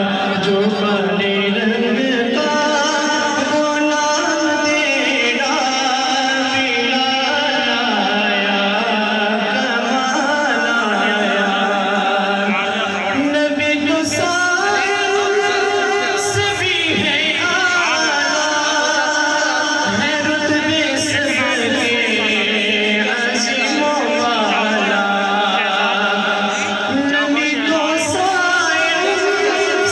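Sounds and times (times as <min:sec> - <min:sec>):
man singing devotional song: 0:00.0 - 0:29.9.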